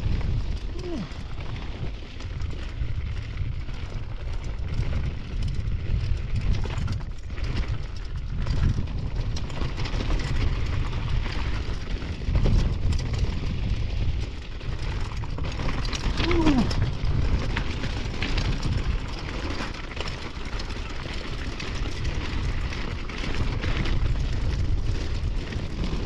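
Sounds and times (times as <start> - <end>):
bike rattling and knocking: 0.0 - 26.0
tyres crunching over gravel: 0.0 - 26.0
wind buffeting microphone: 0.0 - 26.0.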